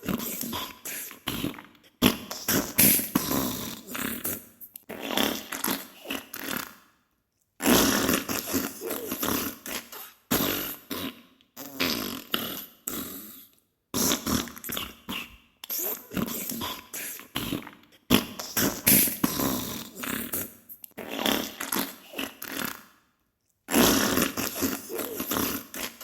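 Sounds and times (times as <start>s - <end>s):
sputtering fart bursts: 0.0s - 6.8s, 7.6s - 13.3s, 14.0s - 22.8s, 23.7s - 26.0s.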